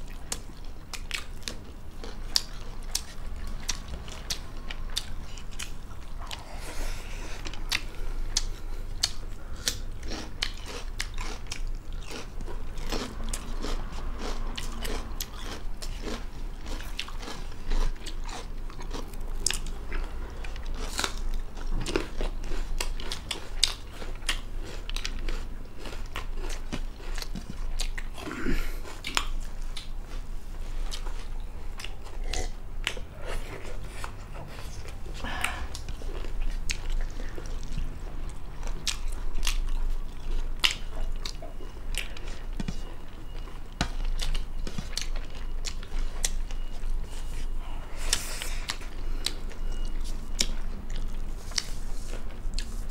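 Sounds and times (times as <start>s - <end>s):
chewing and crunching: 0.0s - 52.9s.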